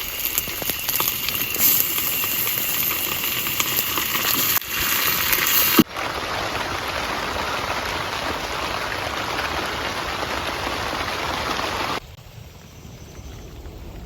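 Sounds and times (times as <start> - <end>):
heavy rain falling: 0.0 - 12.1.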